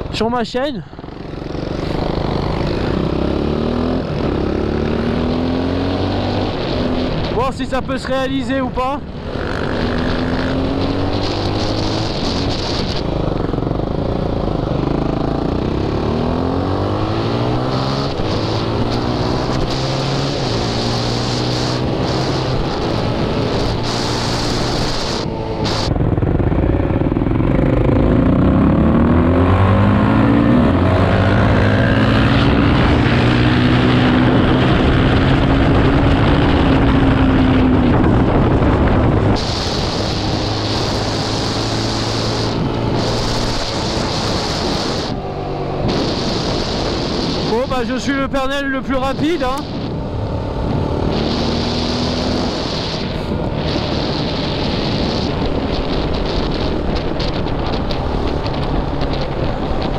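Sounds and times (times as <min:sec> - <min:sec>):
quad bike engines revving: 0:00.9 - 0:59.9.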